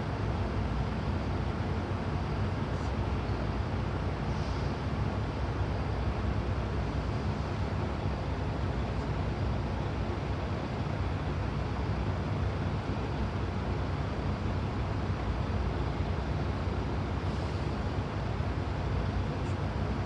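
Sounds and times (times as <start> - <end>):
vehicle engines droning in traffic: 0.2 - 20.0.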